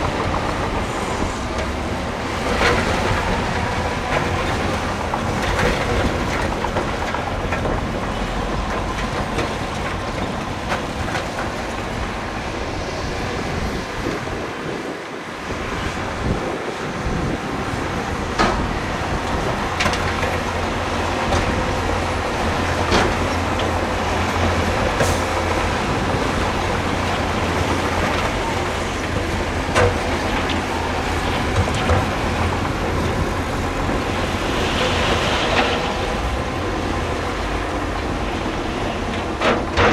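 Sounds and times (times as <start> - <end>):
heavy machinery engine hum: 0.0 - 39.9.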